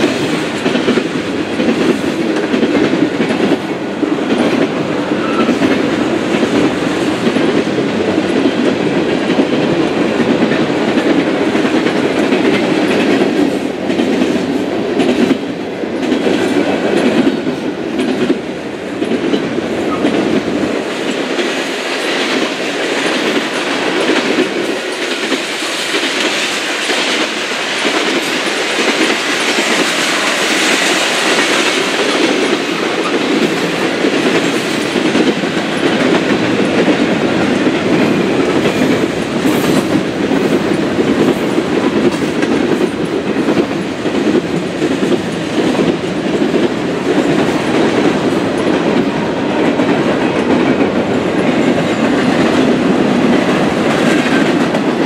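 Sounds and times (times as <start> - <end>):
clickety-clack over rail joints: 0.0 - 55.0
freight train wheels rumbling: 0.0 - 55.0.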